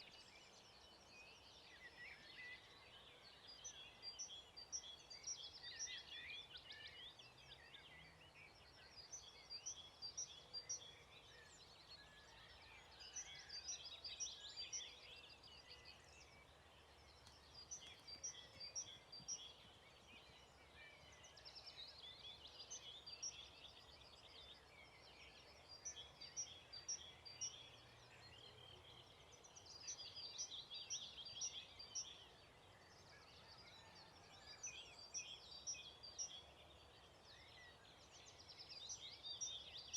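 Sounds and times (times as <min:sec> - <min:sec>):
faint background noise: 0:00.0 - 0:39.9
songbirds singing: 0:00.0 - 0:39.9.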